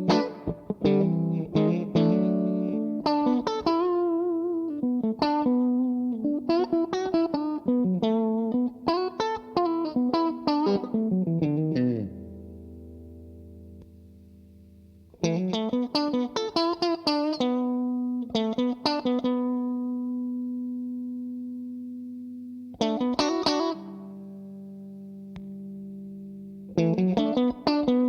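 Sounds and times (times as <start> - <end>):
driven electric guitar lick: 0.0 - 14.3, 14.9 - 28.0.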